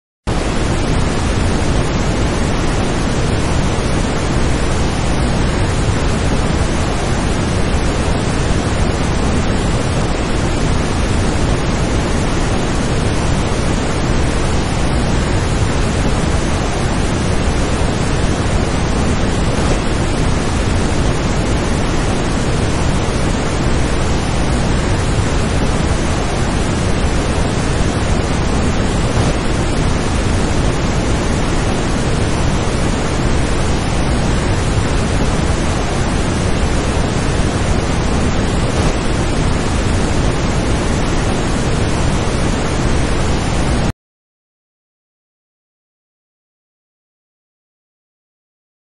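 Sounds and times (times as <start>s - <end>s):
waterfall and rapids rushing: 0.3s - 43.8s.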